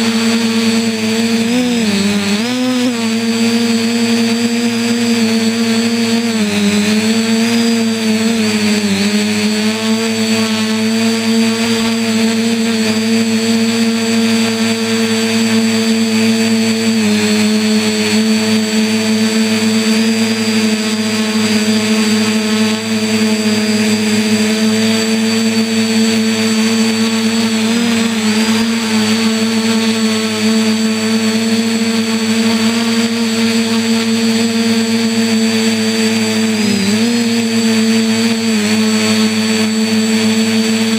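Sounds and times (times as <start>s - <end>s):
quadcopter propellers buzzing: 0.0s - 40.9s.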